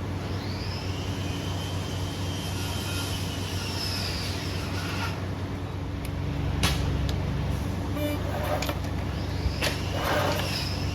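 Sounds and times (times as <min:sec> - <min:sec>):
aircraft whine overhead: 0:00.0 - 0:10.9
steady low hum: 0:00.0 - 0:10.9.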